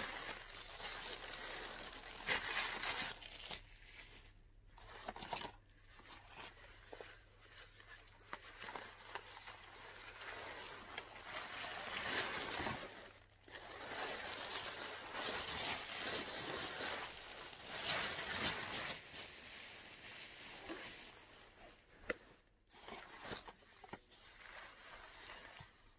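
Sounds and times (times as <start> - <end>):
jacket and plastic wrapping rustling: 0.0 - 25.9.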